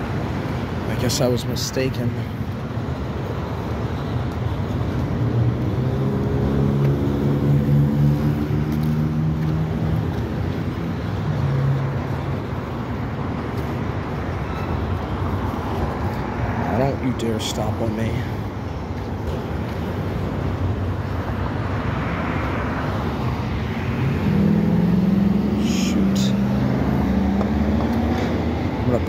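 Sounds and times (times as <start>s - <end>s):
road traffic: 0.0s - 29.0s
vehicle engine hum passing: 2.6s - 29.0s.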